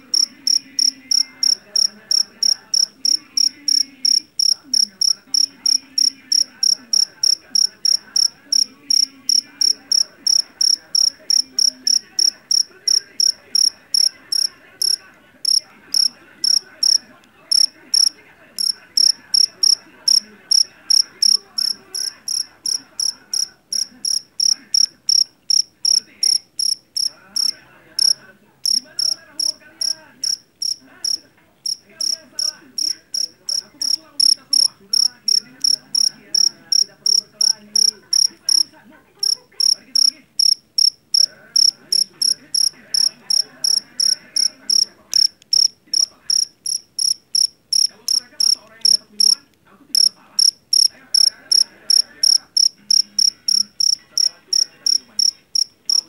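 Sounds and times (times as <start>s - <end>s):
cricket chirping: 0.0s - 49.4s, 50.0s - 56.0s.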